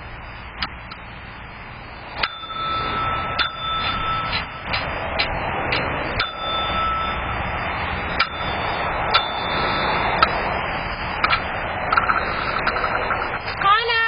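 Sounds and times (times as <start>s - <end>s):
outdoor background hiss: 0.0s - 14.0s
high beep: 2.2s - 14.0s.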